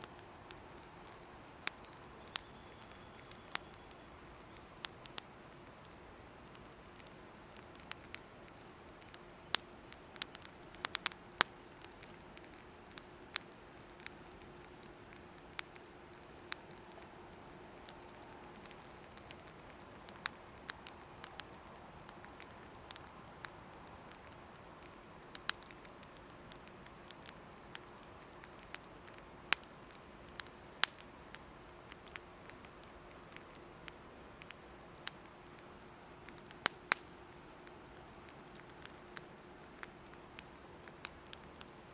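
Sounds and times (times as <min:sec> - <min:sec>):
faint steady hiss: 0:00.0 - 0:41.9
firewood crackling: 0:00.0 - 0:41.9.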